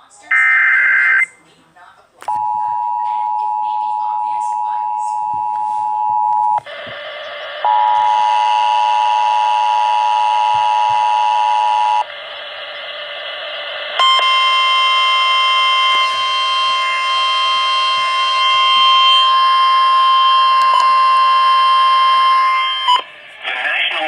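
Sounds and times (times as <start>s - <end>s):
hissy distorted broadcast background: 0.0s - 24.0s
steady alarm tone: 2.3s - 23.3s.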